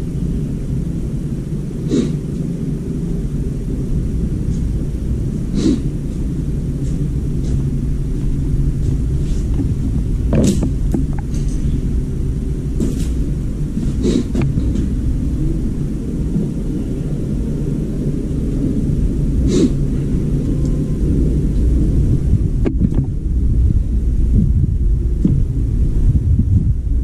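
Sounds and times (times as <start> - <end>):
low machine rumble: 0.0 - 27.0.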